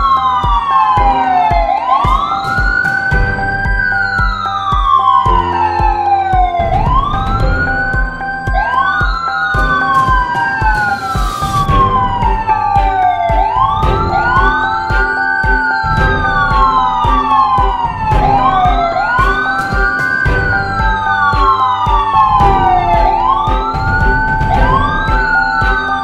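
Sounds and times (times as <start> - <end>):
background music with steady beat: 0.0 - 26.0
wailing sirens: 0.0 - 26.0.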